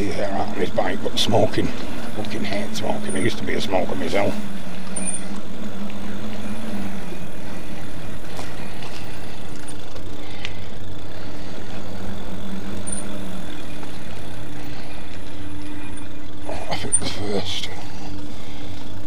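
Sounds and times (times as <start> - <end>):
electric motor hum: 0.0 - 19.0.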